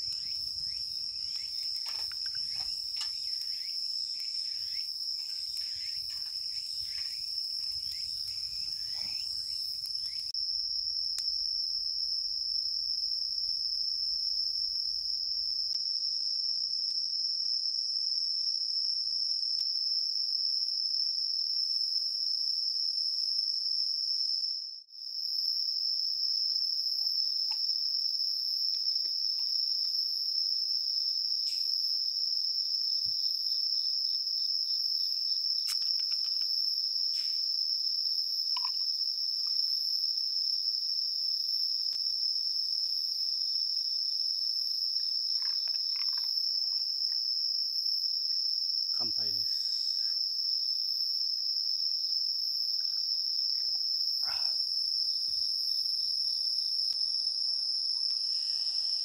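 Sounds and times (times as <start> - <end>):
crickets and insects trilling: 0.0 - 19.0, 25.2 - 59.0.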